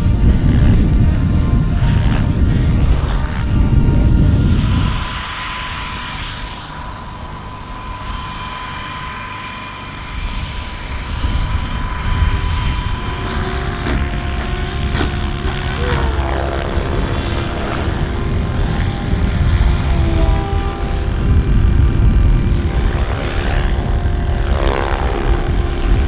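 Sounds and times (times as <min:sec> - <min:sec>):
motor running with whine: 0:00.0 - 0:26.0.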